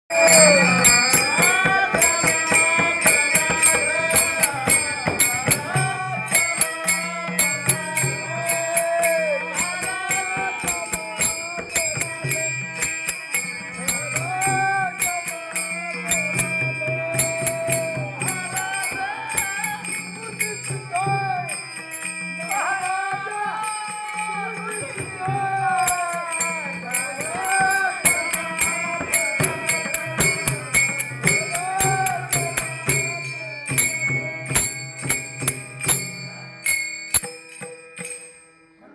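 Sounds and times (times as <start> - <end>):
elderly person singing: 0.1 - 35.2
jingling hand percussion: 0.1 - 38.9.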